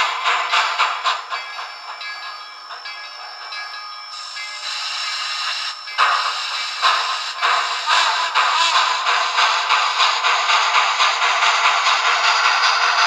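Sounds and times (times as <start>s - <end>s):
rhythmic exhaust chuffs: 0.0s - 13.0s
steam hiss: 0.0s - 13.0s.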